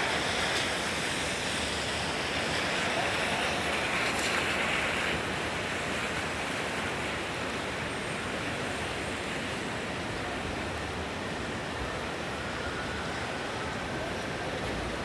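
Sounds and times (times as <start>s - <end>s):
rain: 0.0s - 15.0s
tyres on wet pavement: 0.0s - 15.0s.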